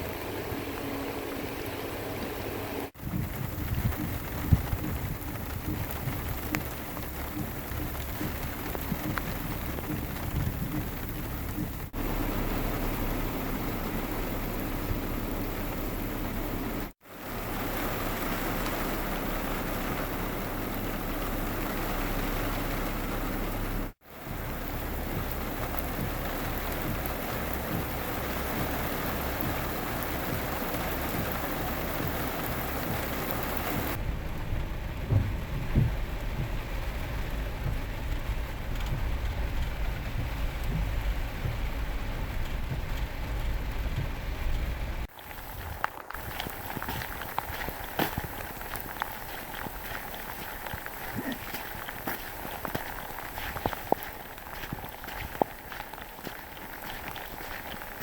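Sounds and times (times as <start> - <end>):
low rumble: 0.0 - 58.0
steady rain falling: 0.0 - 58.0.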